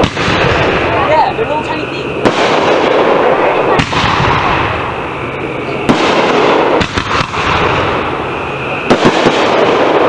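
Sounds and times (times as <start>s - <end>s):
continuous hiss: 0.0s - 10.0s
fireworks bangs: 0.0s - 10.0s.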